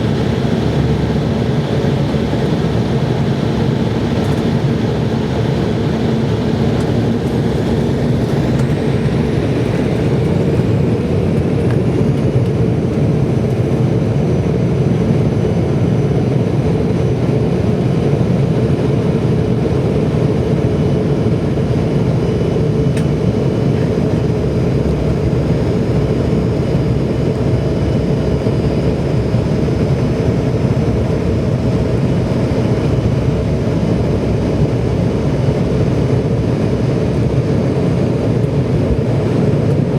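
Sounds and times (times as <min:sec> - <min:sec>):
jet engines and rushing air: 0:00.0 - 0:39.9.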